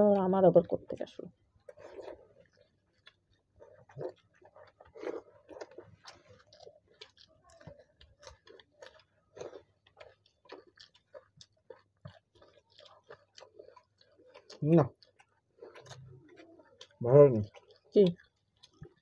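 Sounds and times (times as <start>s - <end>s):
chewing and mouth sounds: 0.0s - 19.0s.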